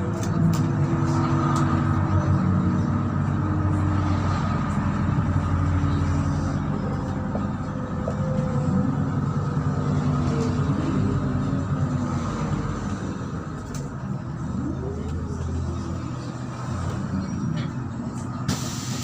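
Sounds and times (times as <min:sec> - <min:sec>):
bus diesel engine running: 0:00.0 - 0:19.0
road noise: 0:00.0 - 0:19.0.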